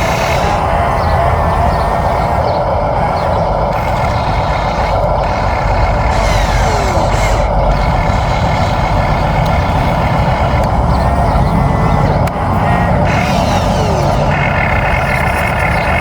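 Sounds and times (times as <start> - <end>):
motors whirring and humming: 0.0 - 16.0.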